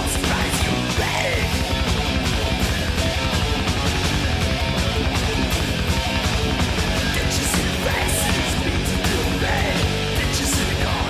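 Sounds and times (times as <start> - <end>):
metal band playing live: 0.0 - 11.0.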